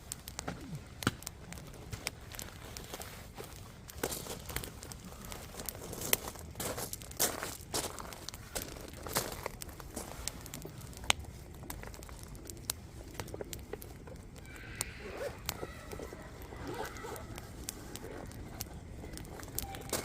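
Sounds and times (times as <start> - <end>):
campfire crackling and popping: 0.0 - 20.0
fire hissing: 0.0 - 20.0.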